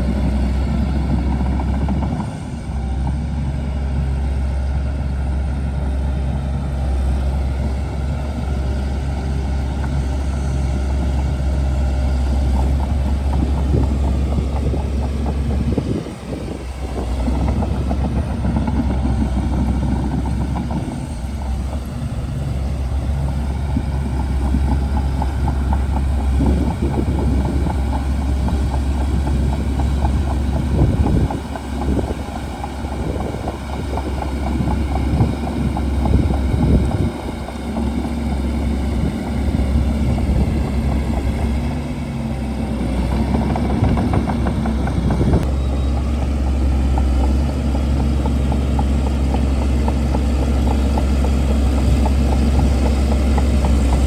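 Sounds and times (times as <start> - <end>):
bulldozer engine droning: 0.0 - 54.0.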